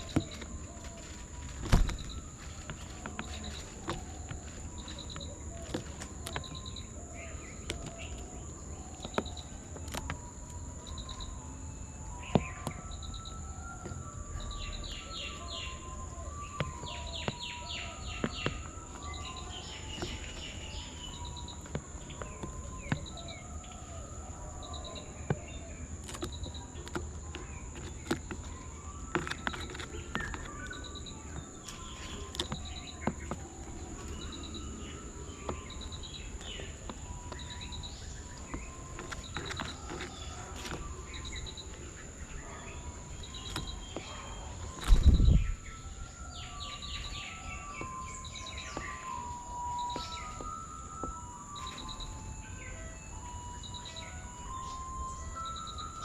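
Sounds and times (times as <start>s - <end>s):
high insect whine: 0.0s - 56.0s
small birds chirping: 0.0s - 56.0s.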